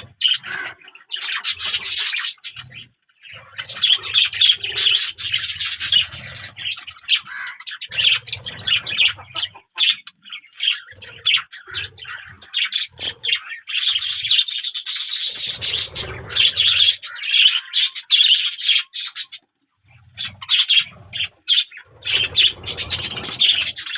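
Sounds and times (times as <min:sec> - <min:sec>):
small birds chirping and squawking: 0:00.0 - 0:23.9.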